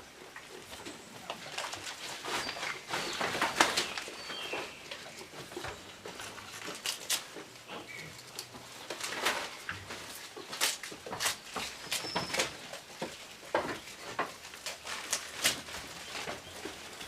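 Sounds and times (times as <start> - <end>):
goats rustling leaves: 0.0 - 17.0.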